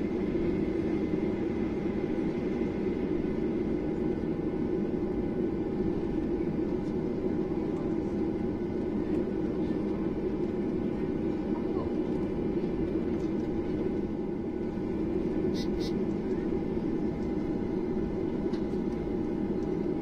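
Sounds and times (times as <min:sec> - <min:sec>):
faint engine whine: 0:00.0 - 0:20.0
jet engine cabin noise: 0:00.0 - 0:20.0.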